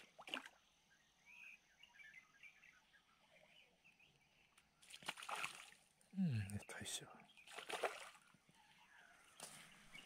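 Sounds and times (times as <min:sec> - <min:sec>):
faint bird chirping: 0:00.6 - 0:05.0, 0:06.0 - 0:10.0.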